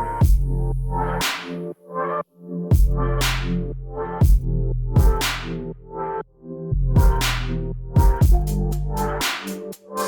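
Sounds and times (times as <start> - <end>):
electronic music with heavy beat: 0.0 - 2.0, 2.6 - 5.7, 7.0 - 10.0.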